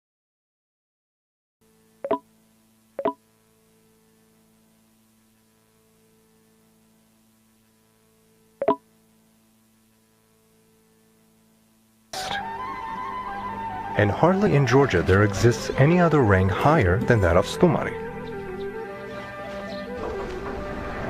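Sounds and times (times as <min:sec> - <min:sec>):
faint electrical hum: 0:01.6 - 0:19.7.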